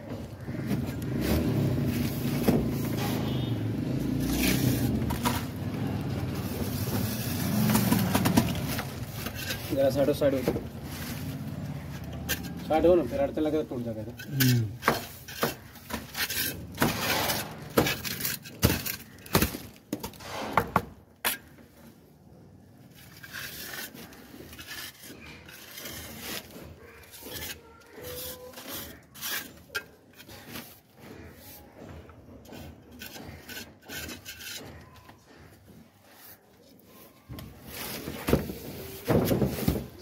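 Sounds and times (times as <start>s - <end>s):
trowel scraping plaster: 0.3s - 10.2s, 10.8s - 19.6s, 22.9s - 31.8s, 32.4s - 40.0s.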